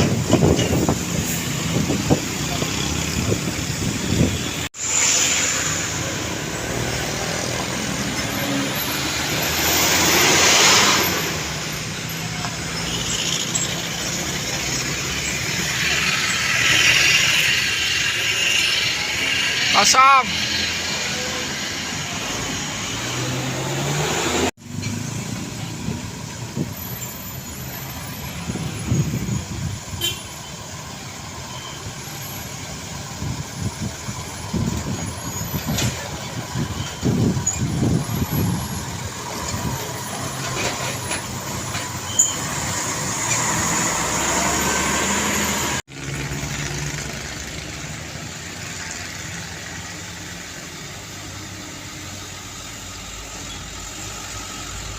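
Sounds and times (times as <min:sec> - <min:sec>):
diesel trucks passing: 0:00.0 - 0:54.9
tyre noise on road: 0:00.0 - 0:54.9.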